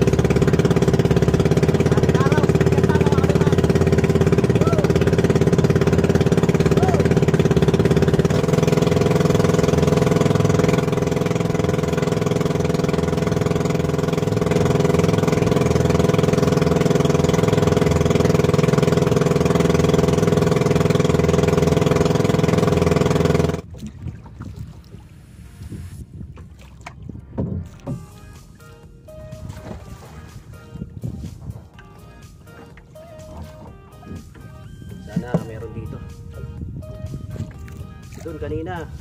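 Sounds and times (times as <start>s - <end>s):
boat motor running: 0.0s - 39.0s.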